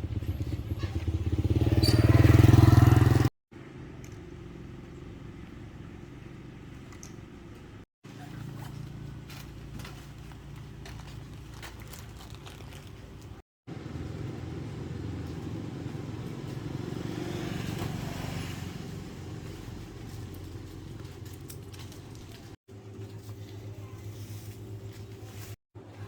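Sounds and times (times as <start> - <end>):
vehicle engine running: 0.0 - 25.5.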